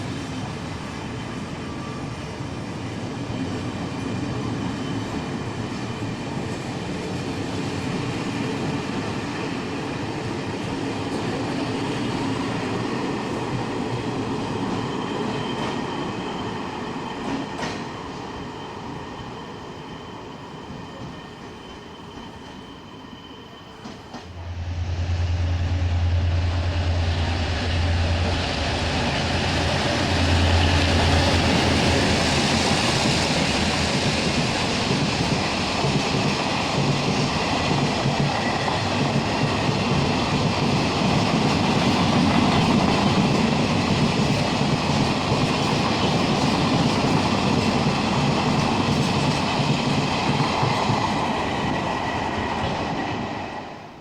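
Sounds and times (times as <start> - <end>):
train rolling with whining tones: 0.0 - 54.0
train with deep hum: 0.0 - 54.0.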